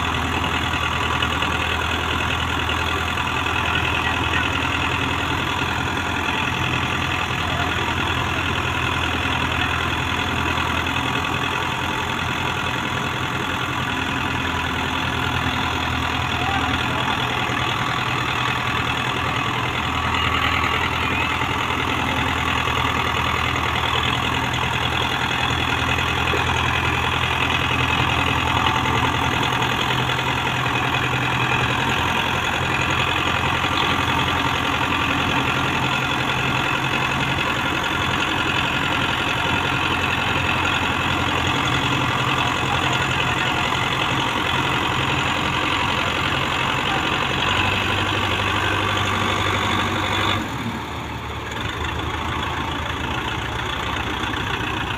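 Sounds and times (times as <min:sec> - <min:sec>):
tractor diesel engines under load: 0:00.0 - 0:54.9.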